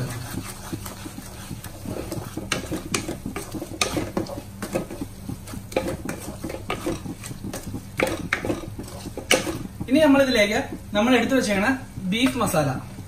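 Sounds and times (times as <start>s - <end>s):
wooden spatula scraping metal pan: 0.0s - 10.8s.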